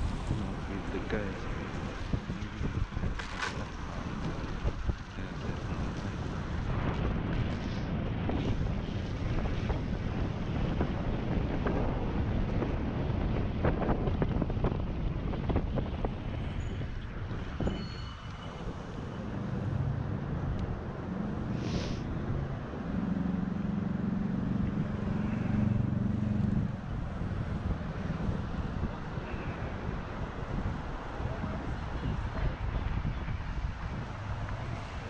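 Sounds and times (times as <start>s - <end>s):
low road rumble: 0.0s - 35.0s
wind buffeting microphone: 0.0s - 35.0s.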